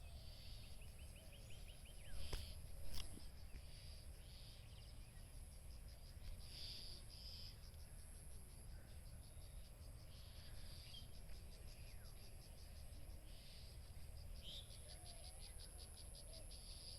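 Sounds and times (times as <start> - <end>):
faint bird chirps: 0.0 - 16.9
insects chirping: 0.0 - 16.9.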